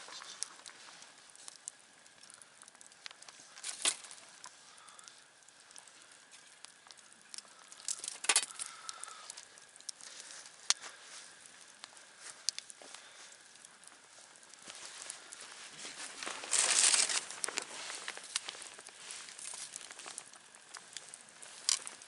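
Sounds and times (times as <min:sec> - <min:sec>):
burning wood pops: 0:00.0 - 0:22.0
campfire crackling: 0:00.0 - 0:22.0.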